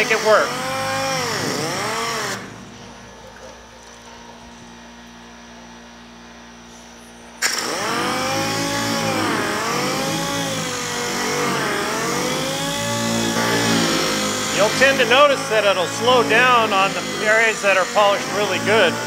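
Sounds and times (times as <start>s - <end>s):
sander running: 0.0s - 19.0s.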